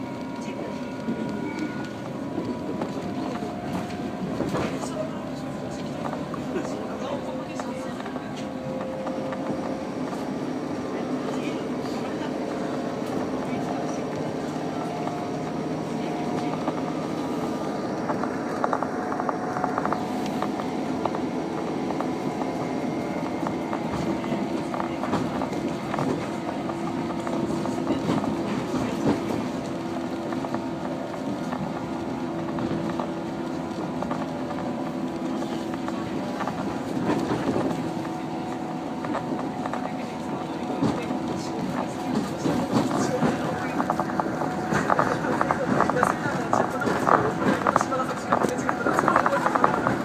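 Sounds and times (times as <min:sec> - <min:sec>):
train rumbling on track: 0:00.0 - 0:50.0.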